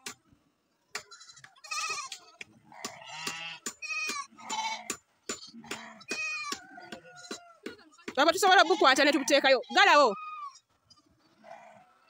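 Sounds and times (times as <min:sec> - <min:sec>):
goats bleating: 0:01.0 - 0:07.6, 0:08.2 - 0:12.0.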